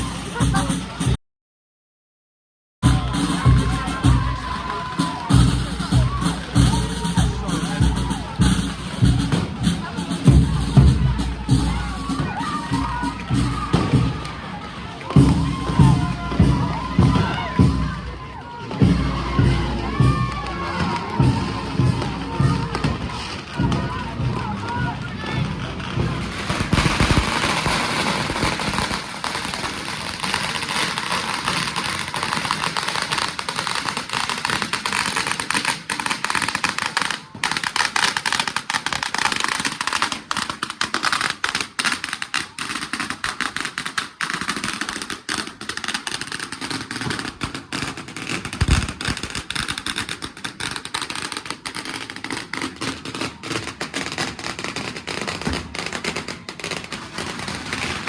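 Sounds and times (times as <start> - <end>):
firecrackers crackling: 0.0 - 1.2, 2.8 - 58.0.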